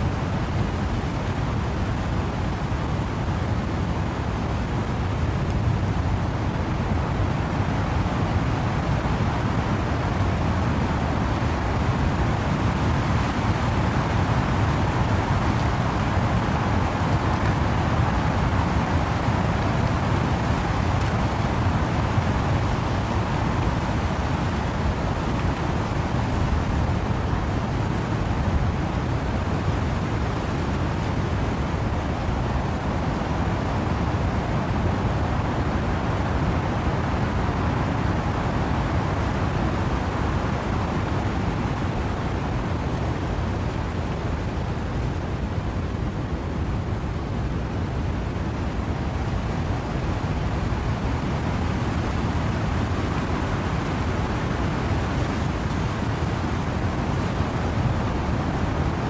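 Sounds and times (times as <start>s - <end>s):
steady rain: 0.0s - 59.0s
wind through trees: 0.0s - 59.0s.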